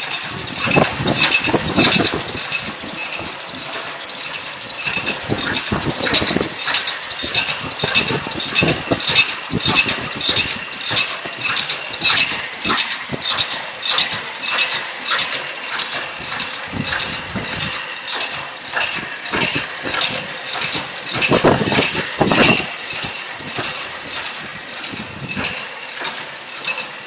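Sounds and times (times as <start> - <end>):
machine clattering: 0.0 - 27.0.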